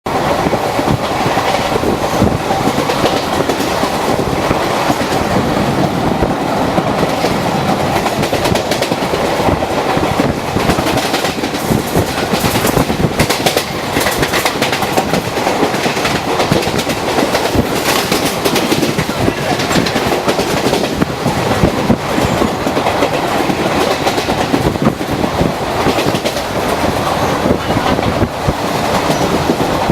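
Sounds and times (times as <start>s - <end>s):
train coaches passing: 0.1s - 29.9s
wheels clicking over rail joints: 0.5s - 29.9s.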